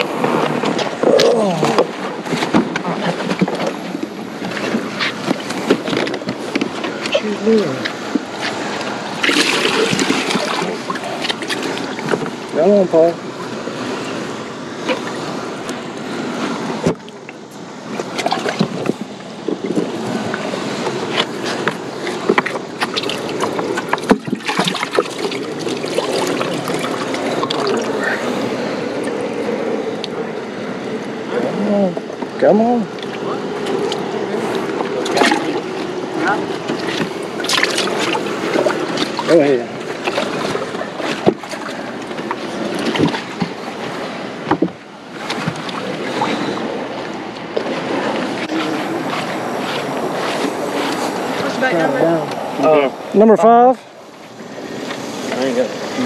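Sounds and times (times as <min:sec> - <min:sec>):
water splashing and trickling: 0:00.0 - 0:56.0.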